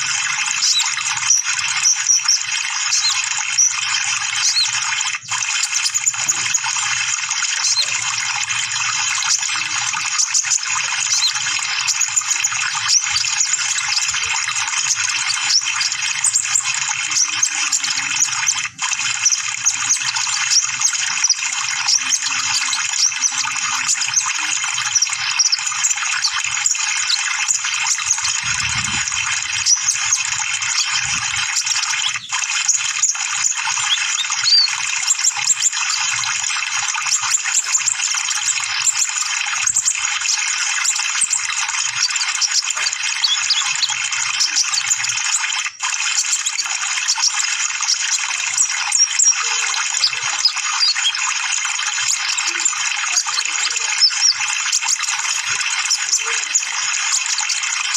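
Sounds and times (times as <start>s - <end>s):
birds twittering and chirping: 0.0s - 57.9s.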